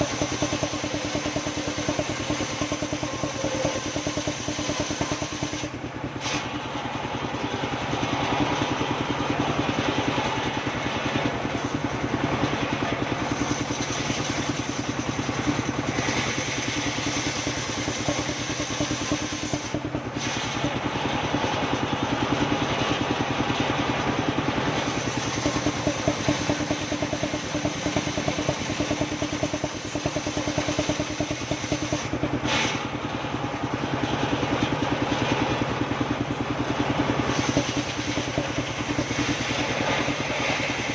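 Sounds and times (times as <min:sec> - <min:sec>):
sawmill engine pulsing: 0:00.0 - 0:40.9.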